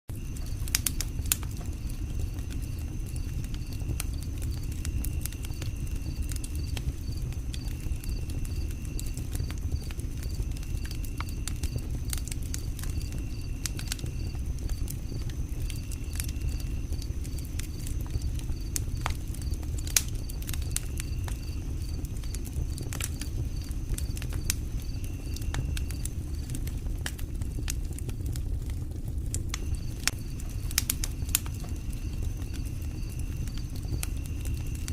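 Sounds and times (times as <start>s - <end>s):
campfire crackling and popping: 0.1s - 34.9s.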